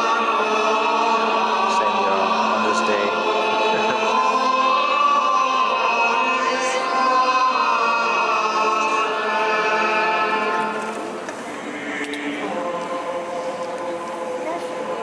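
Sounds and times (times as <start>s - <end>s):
choir singing a chant: 0.0s - 15.0s.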